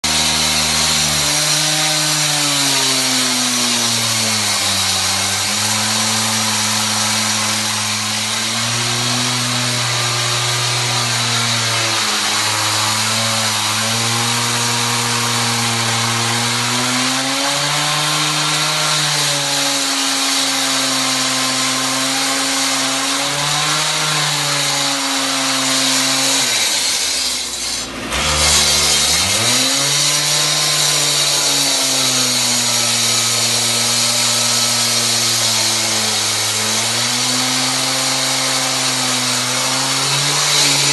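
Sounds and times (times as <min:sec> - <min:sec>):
concrete saw engine running: 0:00.0 - 0:40.9.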